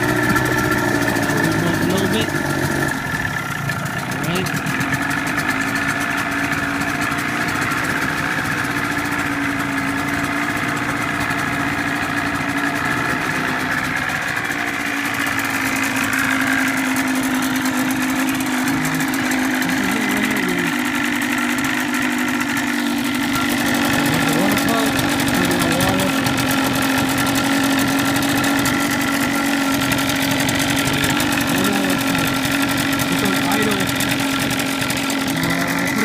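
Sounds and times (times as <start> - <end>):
outboard motor idling: 0.0 - 36.0.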